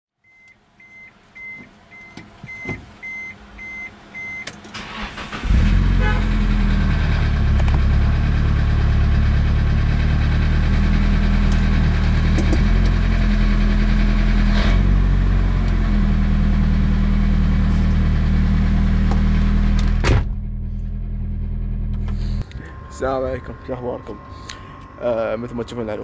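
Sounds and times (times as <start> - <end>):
car engine idling: 3.4 - 26.0.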